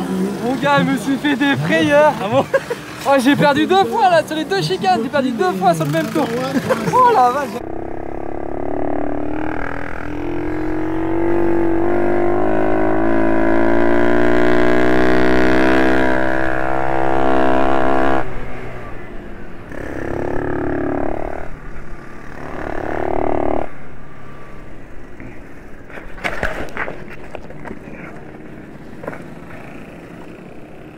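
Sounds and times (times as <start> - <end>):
minibike engine accelerating: 0.0 - 30.9.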